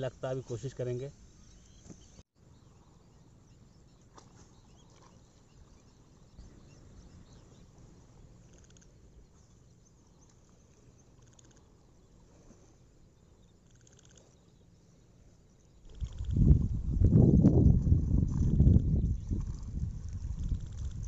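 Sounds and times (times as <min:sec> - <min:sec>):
faint outdoor ambience: 0:00.0 - 0:21.0.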